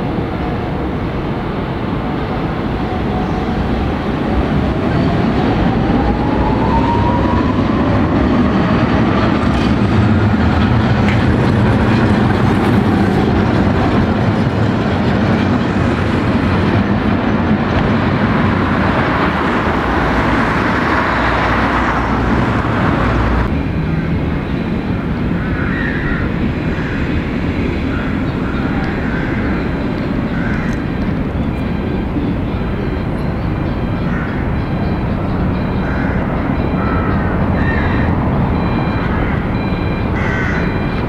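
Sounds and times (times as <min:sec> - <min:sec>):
passing car traffic: 0:00.0 - 0:41.0
street background: 0:00.0 - 0:41.0
tram motor whine: 0:00.0 - 0:41.0
tram wheels on rails: 0:00.0 - 0:41.0.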